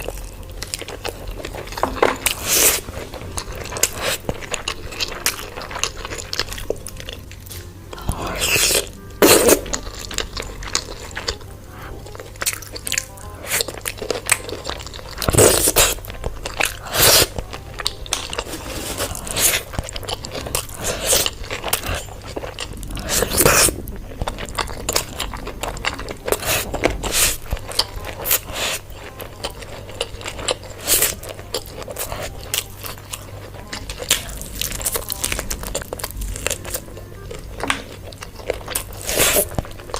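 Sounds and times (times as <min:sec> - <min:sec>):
crunching bites and chewing: 0:00.0 - 0:39.9.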